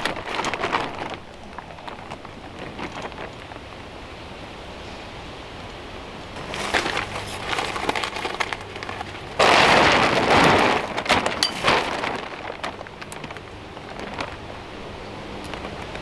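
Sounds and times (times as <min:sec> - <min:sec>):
plastic tarp crinkling and rustling: 0:00.0 - 0:04.0, 0:06.3 - 0:16.0.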